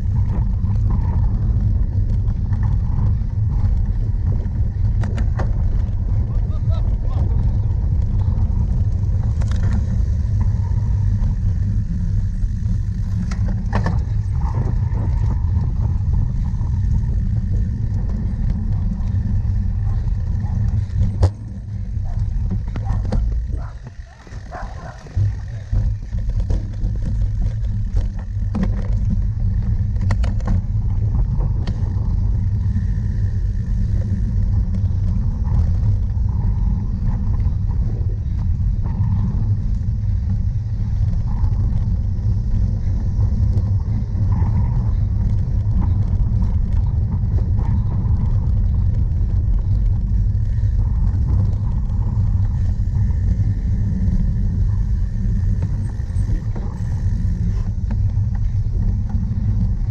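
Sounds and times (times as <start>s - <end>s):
rough-ground vibration: 0.0s - 59.9s
wind buffeting: 0.0s - 59.9s.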